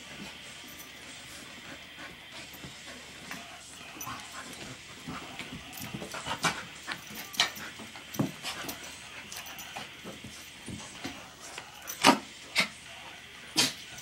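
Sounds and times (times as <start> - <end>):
puppies scuffling on carpet: 0.0 - 14.0.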